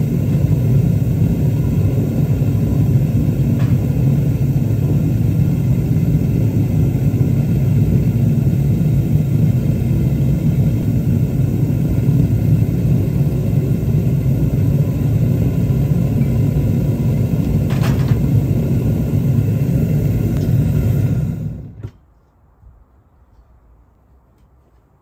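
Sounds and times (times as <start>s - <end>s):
gas burner roaring: 0.0s - 22.0s.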